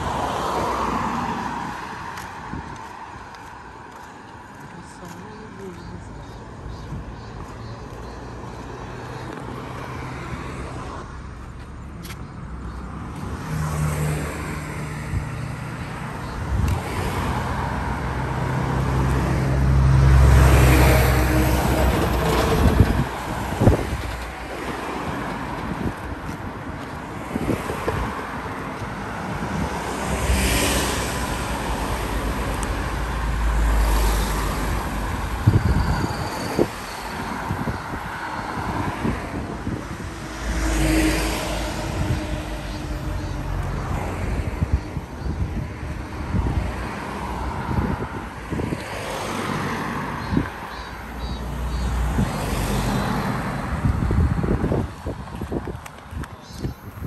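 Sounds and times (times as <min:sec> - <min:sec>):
vehicles passing close: 0:00.0 - 0:57.0.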